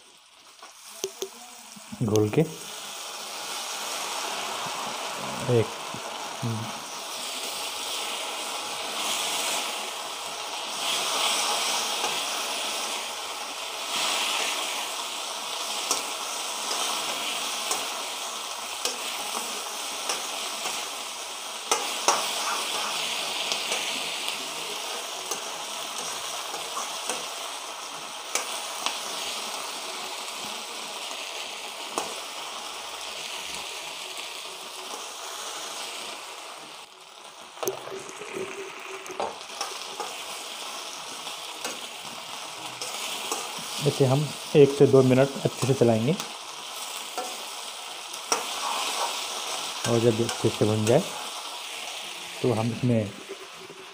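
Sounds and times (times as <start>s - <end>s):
chicken sizzling in a wok: 0.0s - 53.9s.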